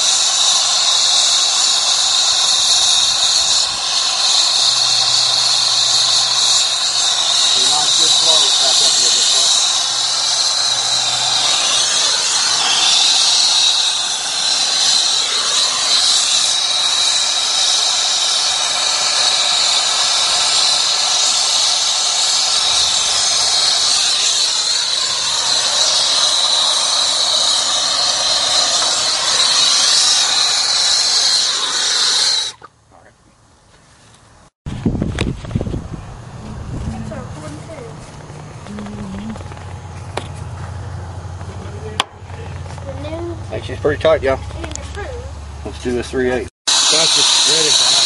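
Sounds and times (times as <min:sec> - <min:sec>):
torch flame hissing: 0:00.0 - 0:32.6, 0:34.9 - 0:48.0.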